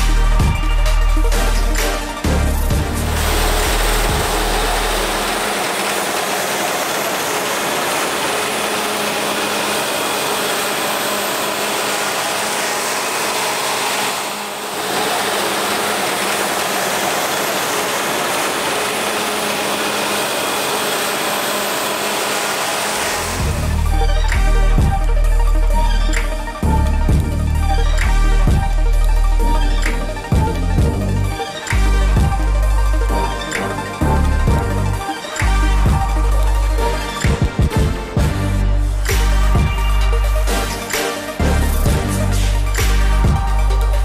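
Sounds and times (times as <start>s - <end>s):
combine harvester running: 0.0s - 44.0s.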